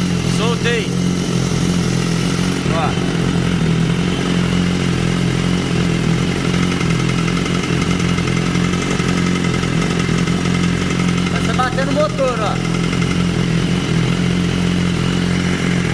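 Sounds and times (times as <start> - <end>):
exhaust valve knocking: 0.0 - 15.9
motorcycle engine idling: 0.0 - 15.9.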